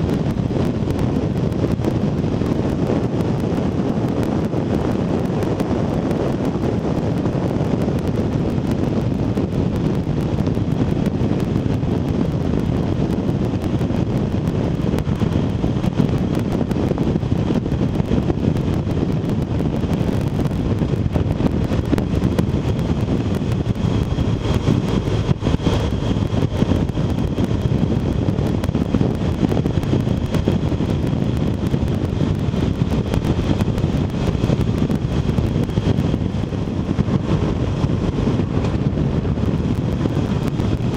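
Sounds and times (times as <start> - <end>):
motorcycle engine and road noise: 0.0 - 40.9
wind rush over microphone: 0.0 - 40.9.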